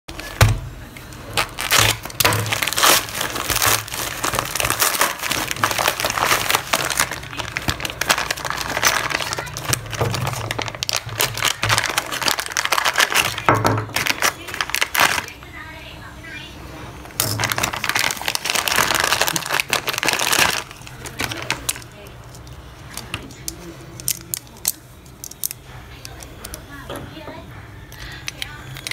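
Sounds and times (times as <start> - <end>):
plastic packaging crinkling: 0.1 - 15.5, 17.1 - 25.7.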